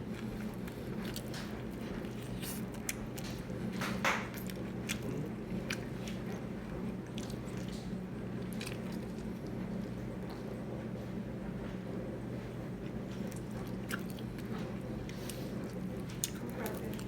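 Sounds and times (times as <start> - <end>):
person chewing food: 0.0 - 10.5, 13.1 - 17.0
steady low hum: 0.0 - 17.0.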